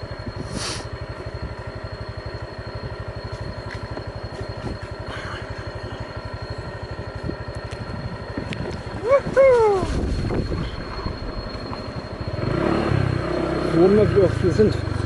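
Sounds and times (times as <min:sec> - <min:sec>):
small motorbike engine running: 0:00.0 - 0:15.0.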